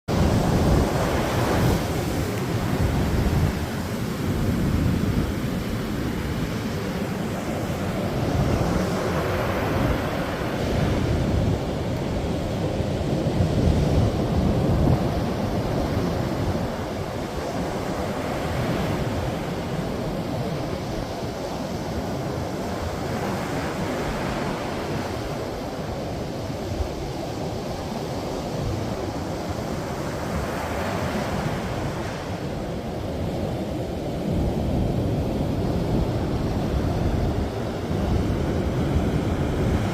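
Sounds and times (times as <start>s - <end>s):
ocean surf breaking on beach: 0.1s - 39.9s.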